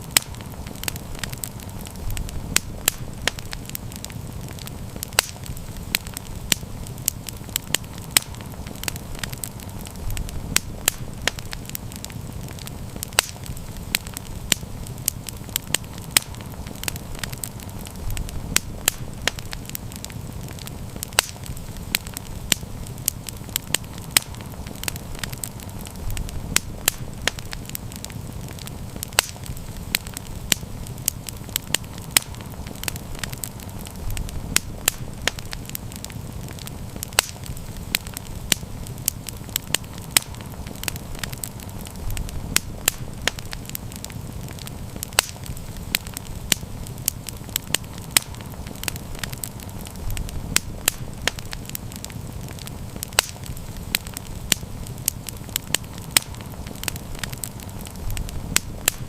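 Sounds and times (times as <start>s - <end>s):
campfire crackling and popping: 0.0s - 59.0s
low rush of flames: 0.0s - 59.0s.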